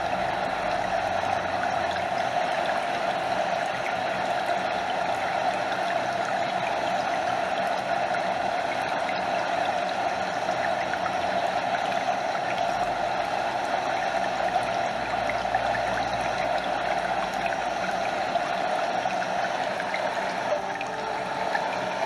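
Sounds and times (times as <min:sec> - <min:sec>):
small waterfall cascading: 0:00.0 - 0:22.0
stream flowing: 0:00.0 - 0:22.0.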